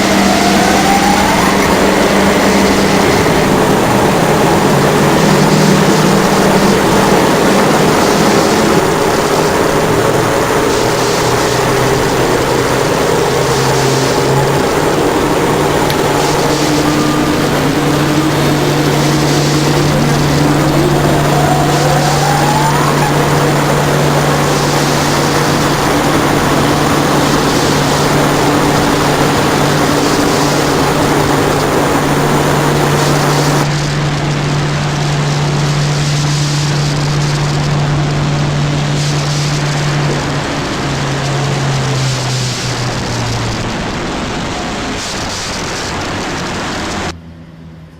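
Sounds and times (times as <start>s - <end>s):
engine running with whine: 0.0s - 47.9s.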